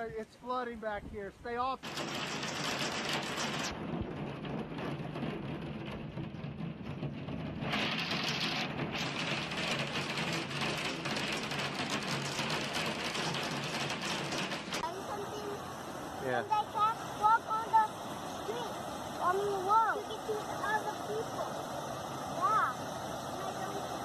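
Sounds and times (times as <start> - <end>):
hail pelting a glass roof: 1.8 - 15.6, 16.2 - 21.5, 22.4 - 24.0.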